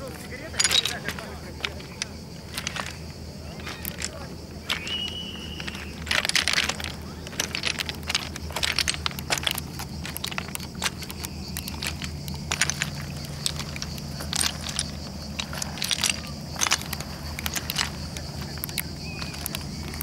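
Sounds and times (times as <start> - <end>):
footsteps crunching on shale stones: 0.0 - 20.0.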